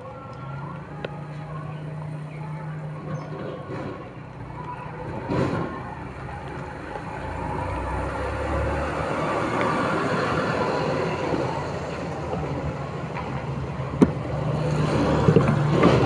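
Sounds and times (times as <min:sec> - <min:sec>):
vehicle running noise from inside: 0:00.0 - 0:16.0.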